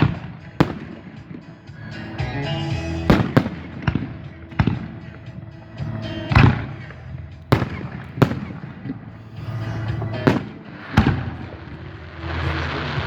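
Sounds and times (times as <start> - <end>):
fireworks exploding: 0.0 - 1.8, 3.0 - 13.0.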